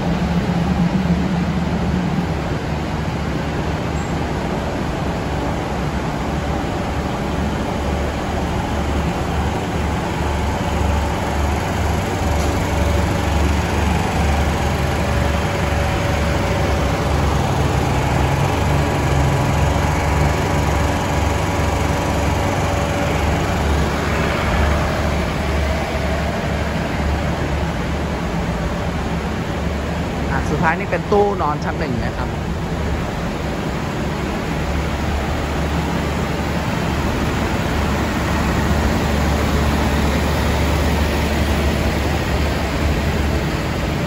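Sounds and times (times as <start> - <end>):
diesel train idling: 0.0 - 44.0.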